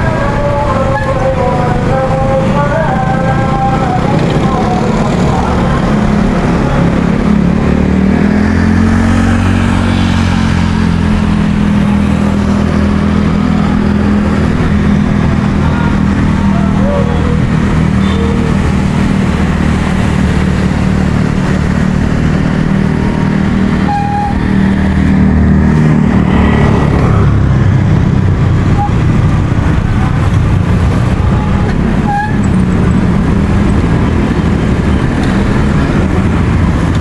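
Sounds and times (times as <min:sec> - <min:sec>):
motorcycle and car engines: 0:00.0 - 0:37.0.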